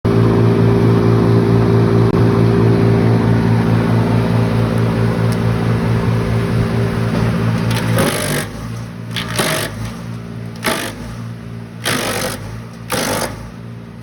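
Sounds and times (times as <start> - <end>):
wood chipper engine droning: 0.1 - 14.0.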